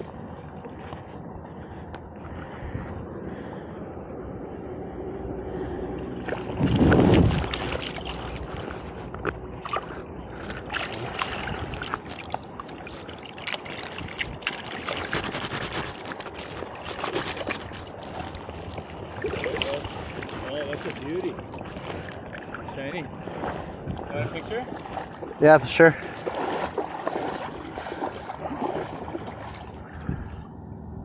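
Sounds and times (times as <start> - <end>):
water sloshing and trickling: 0.0 - 3.8, 4.7 - 31.0.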